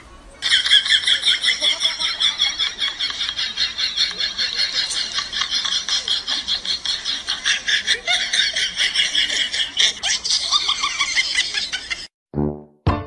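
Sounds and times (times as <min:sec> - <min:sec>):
high-pitched rapid laughter: 0:00.4 - 0:12.1.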